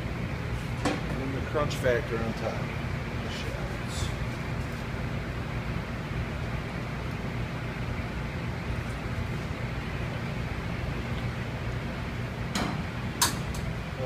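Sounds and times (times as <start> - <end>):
kitchen ventilation rumble: 0.0 - 14.0.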